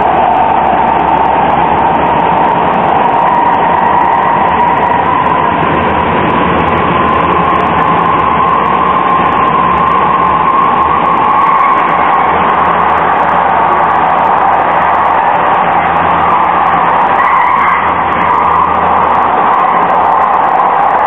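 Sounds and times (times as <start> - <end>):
rising whine of tram motor: 0.0 - 21.0
tram wheels rumbling on track: 0.0 - 21.0.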